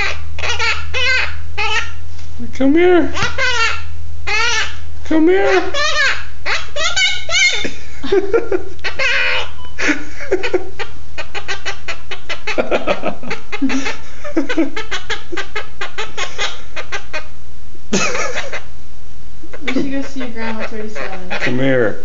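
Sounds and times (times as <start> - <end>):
parrot chattering: 0.0 - 2.0, 3.1 - 7.8, 8.8 - 17.3, 18.0 - 18.7, 19.5 - 21.8
parrot squawky calls: 0.0 - 2.0, 3.1 - 7.8, 8.8 - 17.4, 18.1 - 18.7, 19.5 - 21.6.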